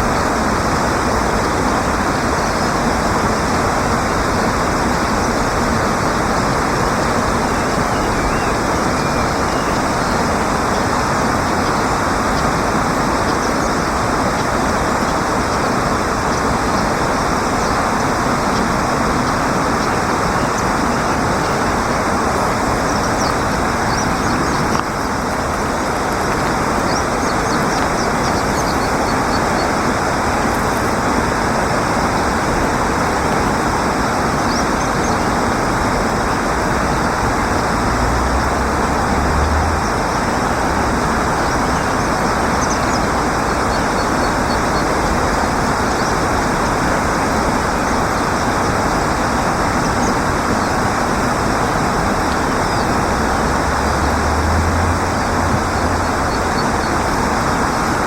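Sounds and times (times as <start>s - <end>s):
loud rushing outdoor noise: 0.0s - 58.0s.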